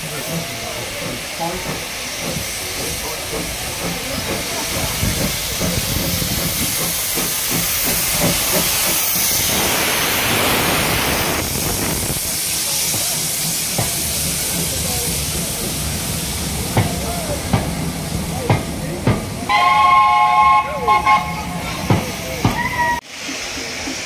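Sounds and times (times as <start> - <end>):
hissing steam: 0.0 - 24.0
steam locomotive passing: 0.0 - 24.0.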